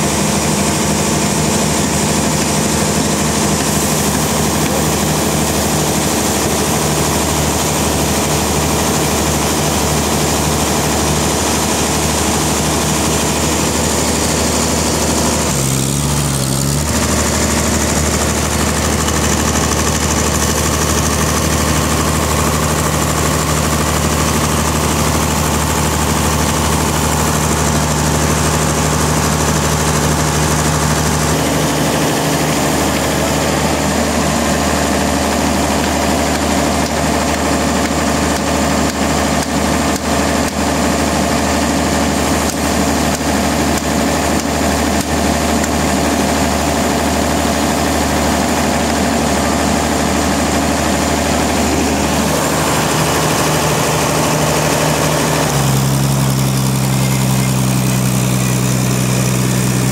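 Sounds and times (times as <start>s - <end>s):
sawmill saw droning: 0.0s - 59.9s.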